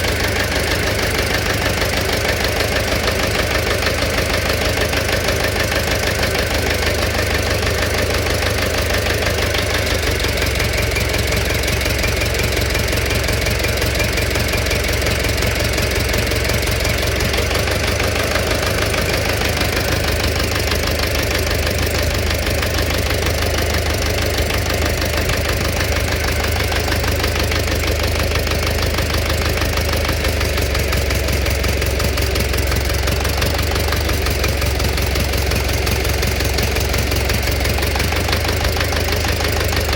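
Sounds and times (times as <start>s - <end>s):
engine running with knocking: 0.0s - 39.9s.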